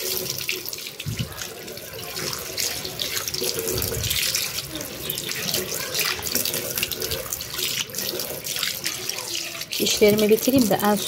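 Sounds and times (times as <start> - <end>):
tap water running into basin: 0.0 - 11.0.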